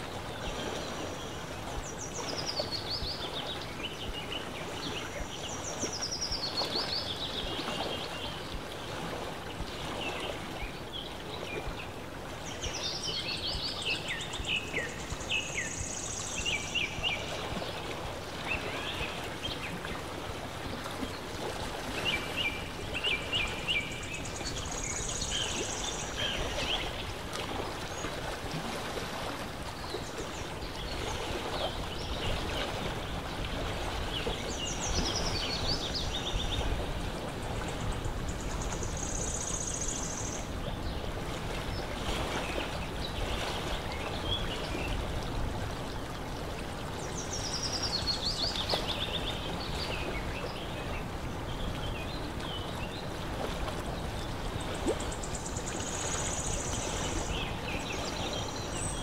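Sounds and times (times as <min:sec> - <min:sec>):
water washing at shore: 0:00.0 - 0:59.0.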